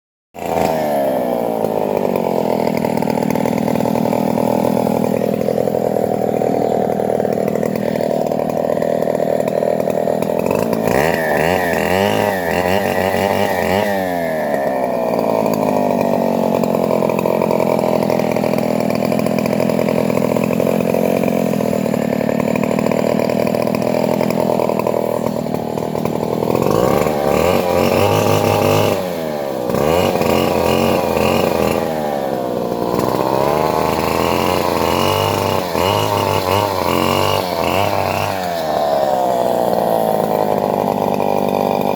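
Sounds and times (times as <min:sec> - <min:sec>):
chainsaw cutting wood: 0:00.4 - 0:41.9.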